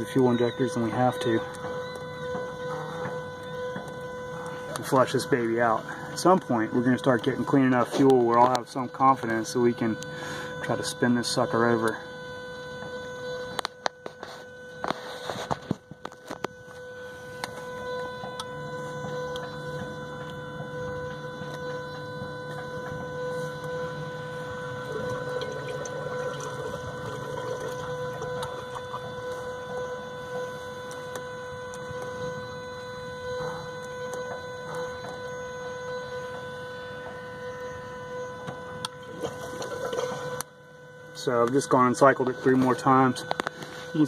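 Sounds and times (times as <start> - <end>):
fuel pump whine: 0.0 - 44.0
low hum: 0.0 - 44.0.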